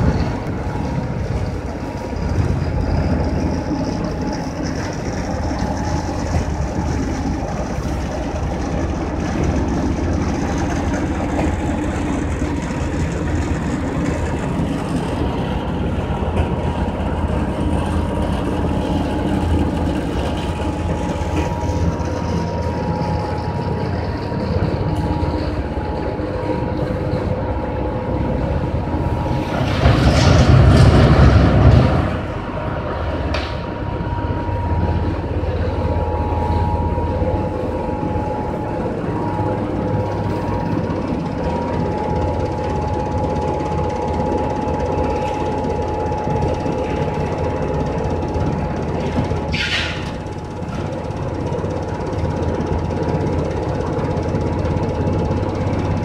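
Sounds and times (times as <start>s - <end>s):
faint steady whine: 0.0s - 56.0s
machinery low rumble: 0.0s - 56.0s.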